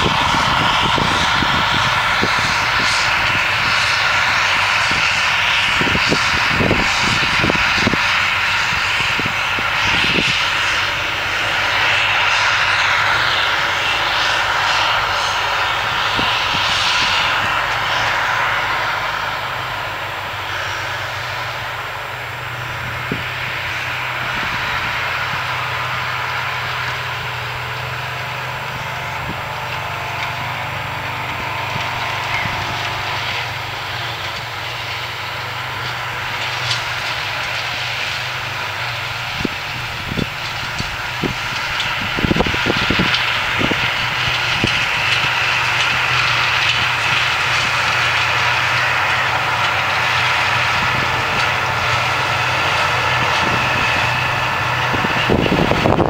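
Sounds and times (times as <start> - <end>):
farm machinery engine drone: 0.0 - 56.0.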